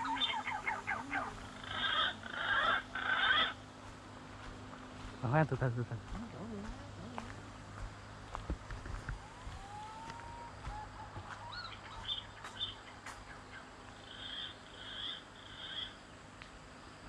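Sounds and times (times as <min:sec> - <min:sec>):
wild bird calls: 0:00.0 - 0:04.0, 0:06.1 - 0:16.2.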